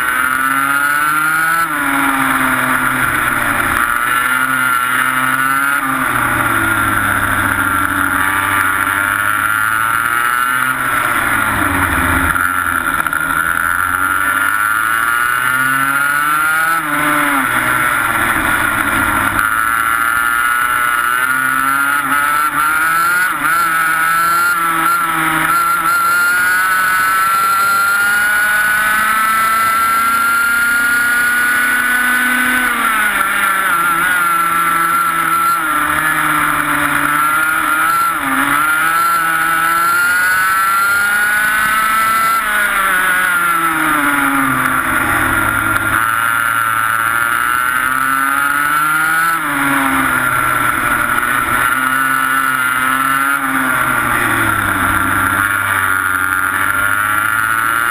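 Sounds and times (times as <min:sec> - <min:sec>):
kart engine accelerating: 0:00.0 - 0:57.9.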